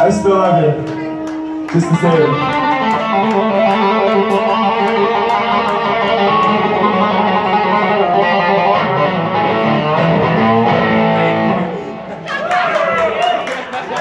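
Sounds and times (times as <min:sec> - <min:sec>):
bass guitar: 0:00.0 - 0:12.2
electric guitar: 0:00.0 - 0:13.2.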